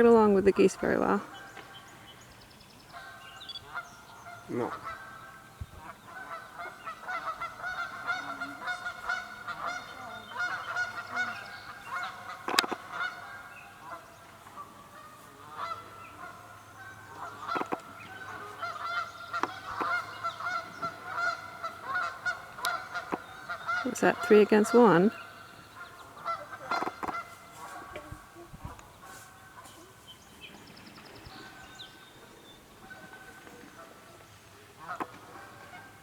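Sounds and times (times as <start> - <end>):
geese honking: 0.0 - 2.2, 2.8 - 30.0, 30.9 - 36.0.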